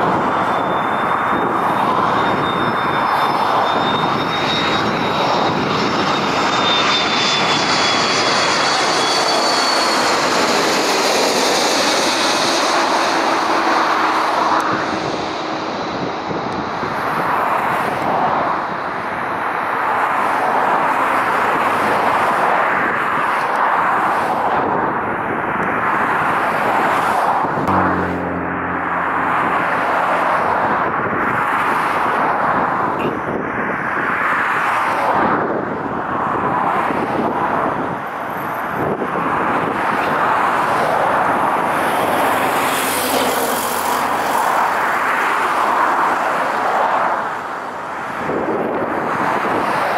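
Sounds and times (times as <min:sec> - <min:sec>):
jet engines landing: 0:00.0 - 0:49.9.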